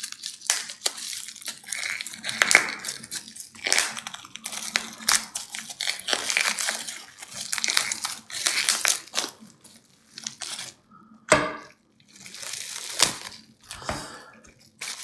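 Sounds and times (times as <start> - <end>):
bubble wrap crinkling: 0.0 - 11.0, 11.7 - 15.0.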